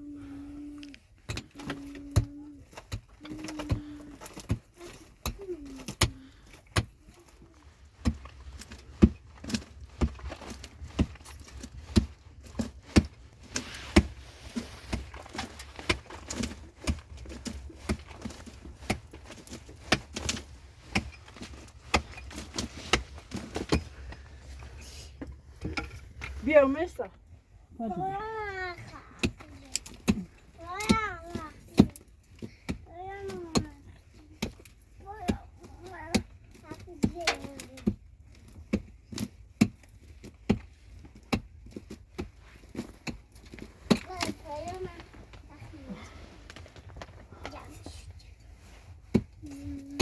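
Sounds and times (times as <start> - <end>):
hand tools striking earth and rock: 1.2 - 26.8, 29.1 - 45.4, 48.9 - 50.0.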